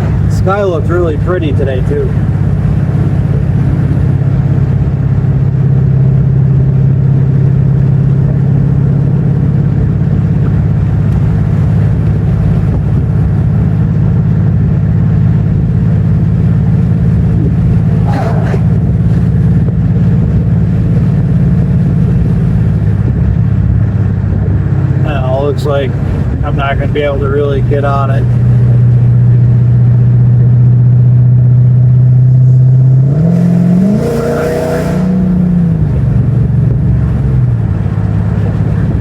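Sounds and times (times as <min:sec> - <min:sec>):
car engine droning: 0:00.0 - 0:39.0
road noise: 0:00.0 - 0:39.0.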